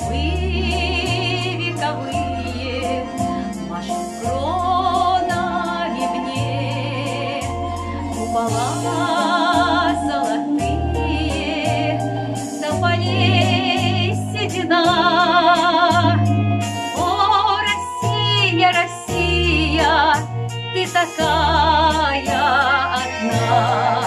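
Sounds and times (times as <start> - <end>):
backing track with bass line: 0.0 - 24.0
woman singing with vibrato: 0.0 - 24.0.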